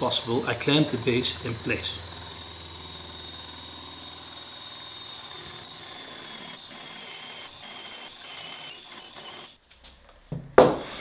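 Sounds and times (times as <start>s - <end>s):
cordless drill boring into wood: 0.0s - 9.6s.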